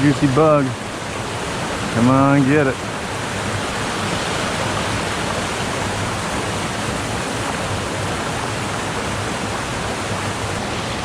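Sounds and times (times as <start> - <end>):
small waterfall and stream rushing: 0.0 - 11.0.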